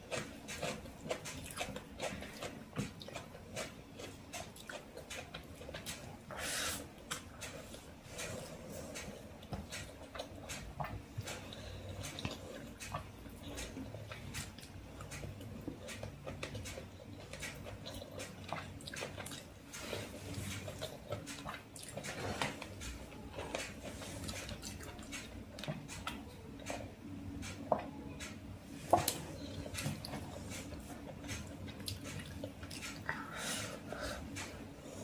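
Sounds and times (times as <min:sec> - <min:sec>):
chewing and mouth smacking: 0:00.0 - 0:34.6
fingers working rice on plate: 0:00.0 - 0:35.0.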